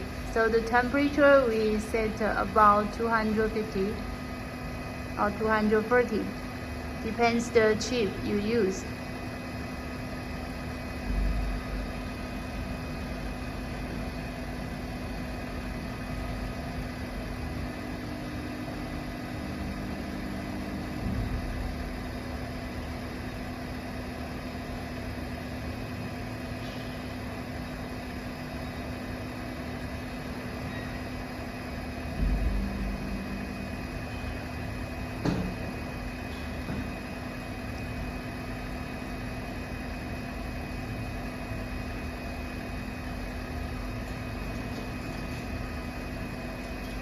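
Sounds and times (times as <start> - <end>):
hot-air blower and fans whirring: 0.0 - 47.0.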